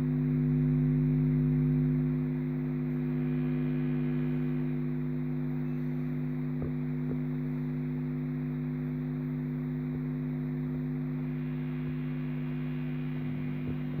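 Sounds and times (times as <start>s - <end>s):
guitar amp low hum: 0.0s - 14.0s.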